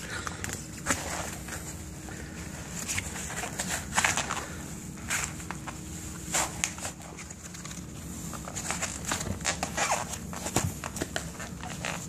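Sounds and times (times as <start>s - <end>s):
rustling and scuffing of clothing: 0.6s - 12.0s.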